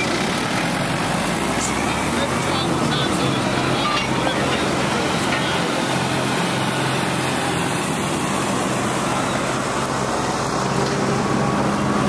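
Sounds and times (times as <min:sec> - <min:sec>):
machine engine running: 0:00.0 - 0:12.0.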